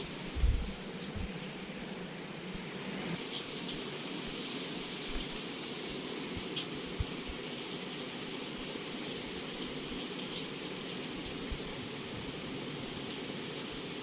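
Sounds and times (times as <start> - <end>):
heavy rain falling: 0.0 - 14.0
sharp ticks of raindrops: 0.0 - 14.0.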